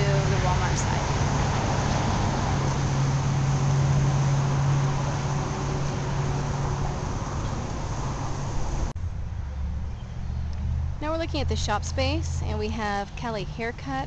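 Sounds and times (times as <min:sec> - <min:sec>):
cars driving by: 0:00.0 - 0:13.8.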